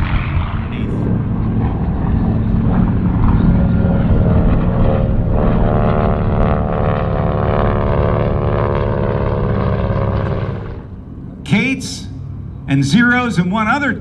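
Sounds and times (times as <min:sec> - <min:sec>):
propeller plane flying past: 0:00.0 - 0:14.0.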